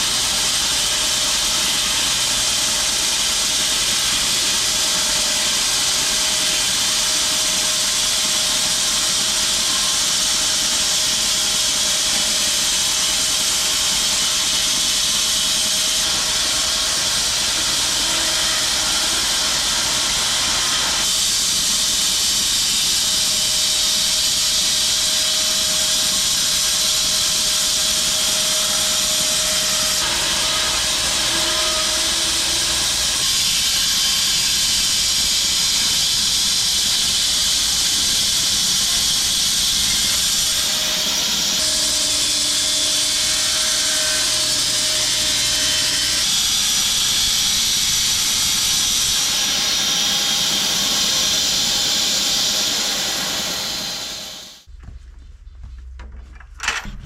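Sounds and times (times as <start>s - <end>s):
saw mill drive running: 0.0s - 54.7s.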